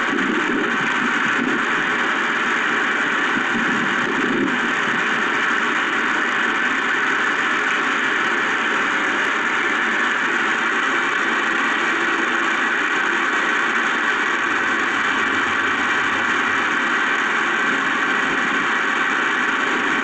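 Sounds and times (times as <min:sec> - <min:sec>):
steady static hiss: 0:00.3 - 0:20.0.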